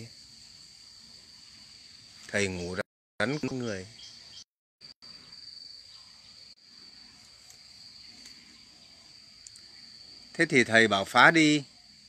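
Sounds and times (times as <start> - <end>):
faint outdoor hiss: 0.0 - 12.0
insects chirring: 0.0 - 12.0.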